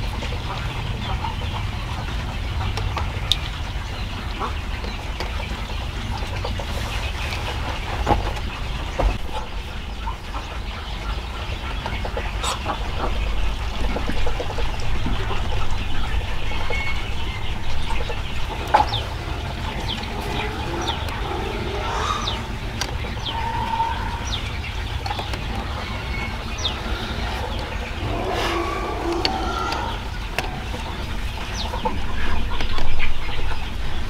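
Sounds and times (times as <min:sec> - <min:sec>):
chickens clucking: 0:00.0 - 0:34.0
steady low rumble: 0:00.0 - 0:34.0.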